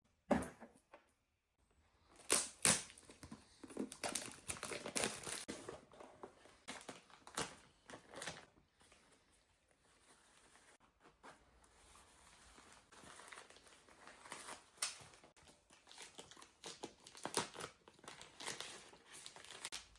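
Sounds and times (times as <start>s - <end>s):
packaging crinkling and rustling: 2.2s - 9.1s, 10.0s - 19.9s.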